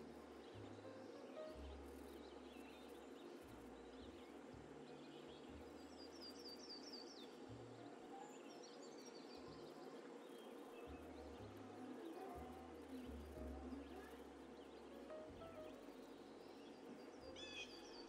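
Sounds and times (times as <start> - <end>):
faint birdsong: 0.0 - 18.0
low hiss: 0.0 - 18.0.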